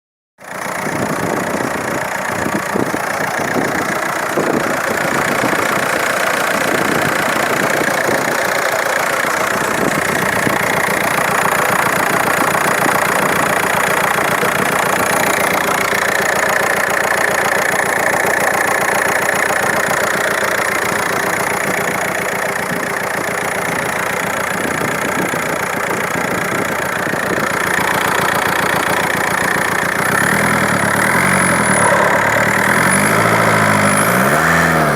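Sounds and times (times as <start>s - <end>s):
diesel engine idling with ticking clatter: 0.4s - 34.9s.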